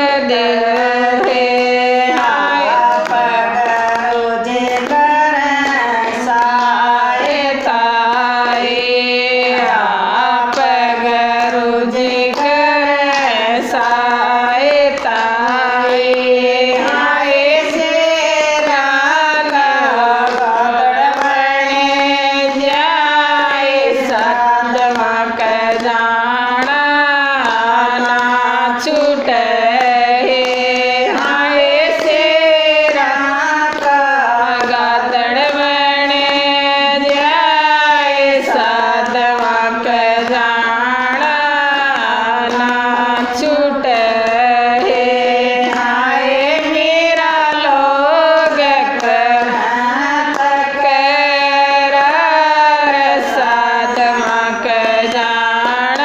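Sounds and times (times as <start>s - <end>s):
women singing in unison: 0.0s - 56.0s.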